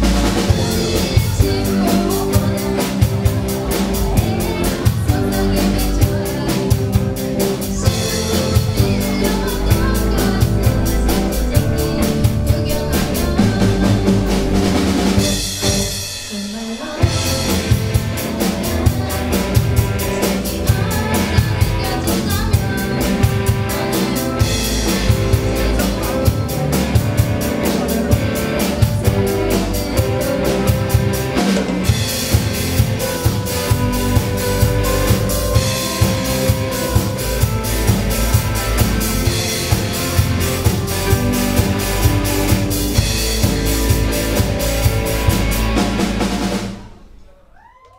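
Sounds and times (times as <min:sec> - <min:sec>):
pop-rock band playing: 0:00.0 - 0:47.3
drum kit beat: 0:00.0 - 0:47.8.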